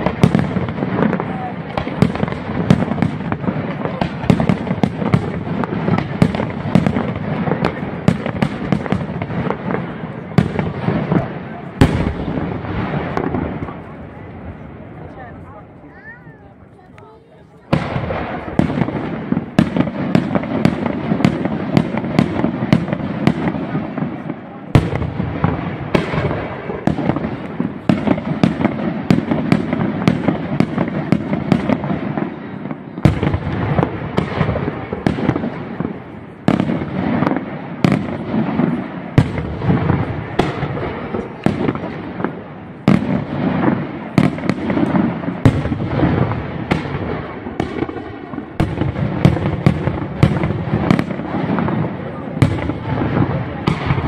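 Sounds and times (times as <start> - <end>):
fireworks crackling: 0.0 - 54.0.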